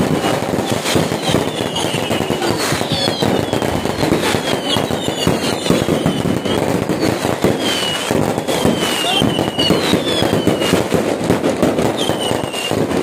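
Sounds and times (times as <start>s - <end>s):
firework whistles falling in pitch: 0.0s - 11.0s, 11.7s - 13.0s
fireworks bursting and crackling: 0.0s - 13.0s.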